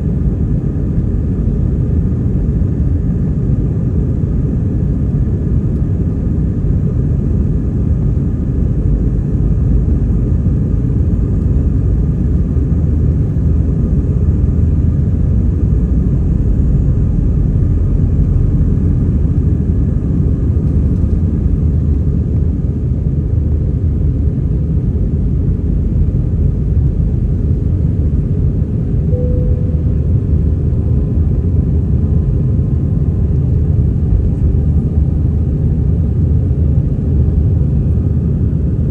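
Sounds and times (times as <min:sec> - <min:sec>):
jet engines rumbling on takeoff: 0:00.0 - 0:38.9.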